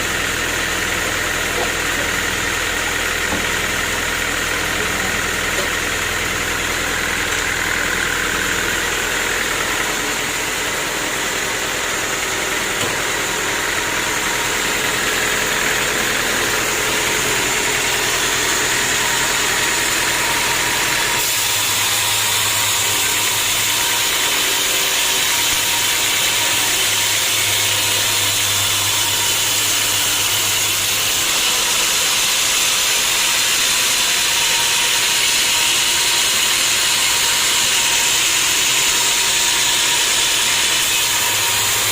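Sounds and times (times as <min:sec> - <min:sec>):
sawmill machinery hiss: 0:00.0 - 0:41.9.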